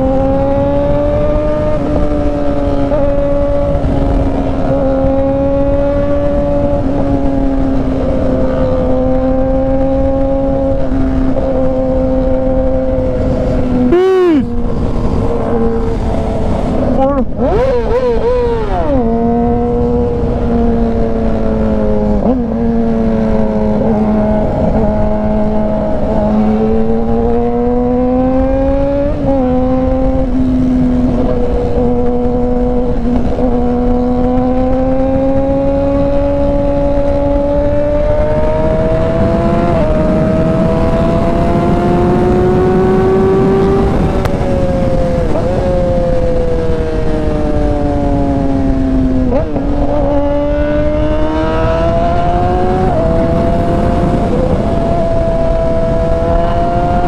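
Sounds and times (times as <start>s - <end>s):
motorcycle engine cruising: 0.0s - 57.0s
wind rush: 0.0s - 57.0s.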